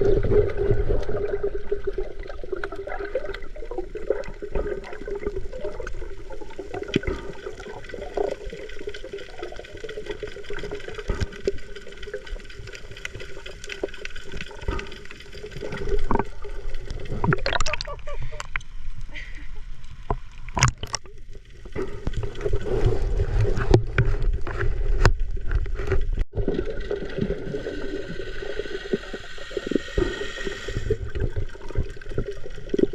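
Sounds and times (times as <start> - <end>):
water splashing and sloshing: 0.0 - 32.9.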